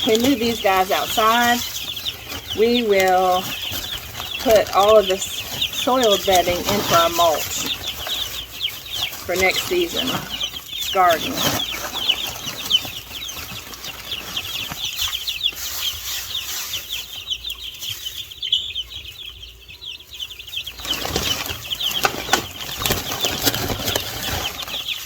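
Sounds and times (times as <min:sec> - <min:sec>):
rustling and scuffling: 0:00.0 - 0:19.2, 0:20.4 - 0:25.0
chicks peeping: 0:00.0 - 0:25.0.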